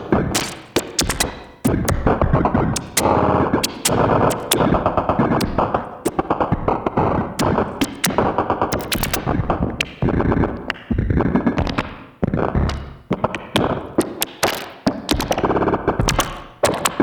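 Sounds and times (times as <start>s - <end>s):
glitchy synthesizer music: 0.1s - 17.0s.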